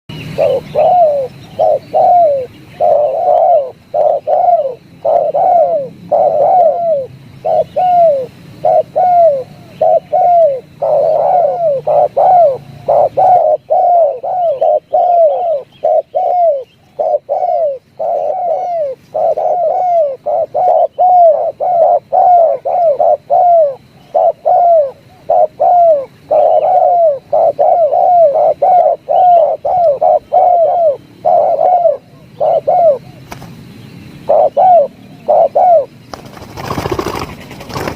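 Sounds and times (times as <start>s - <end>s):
dove cooing: 0.2s - 37.9s.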